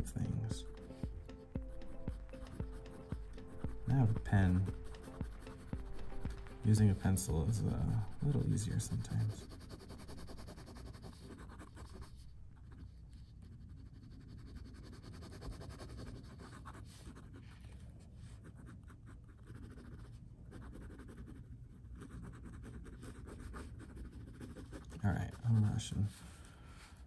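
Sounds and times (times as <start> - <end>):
drawing strokes on paper: 0.0 - 17.7, 18.4 - 26.3.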